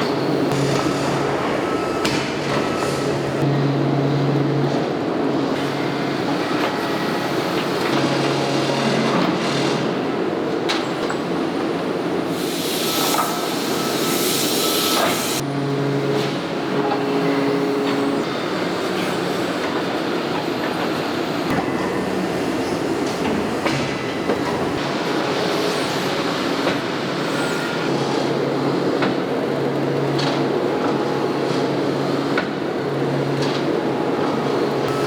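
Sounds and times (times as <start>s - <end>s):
factory machinery din: 0.0s - 10.2s, 11.0s - 29.1s, 33.2s - 35.0s.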